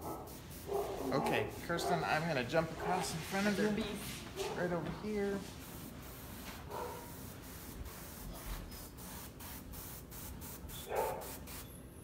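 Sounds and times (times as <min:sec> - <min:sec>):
airbrush spraying in hissing spurts: 0:00.0 - 0:11.8.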